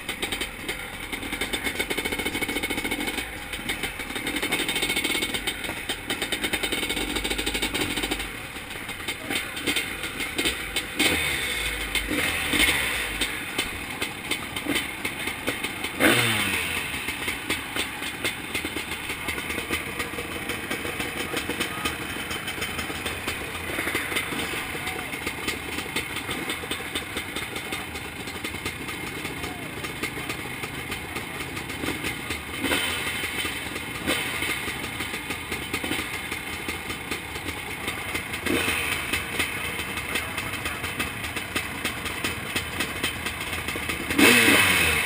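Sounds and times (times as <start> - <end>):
two-stroke engine revving: 0.0 - 45.0.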